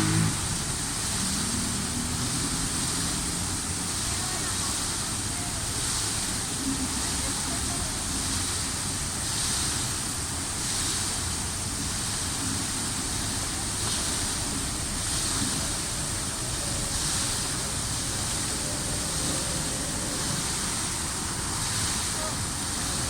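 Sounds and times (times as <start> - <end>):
fountain water splashing: 0.0 - 23.0.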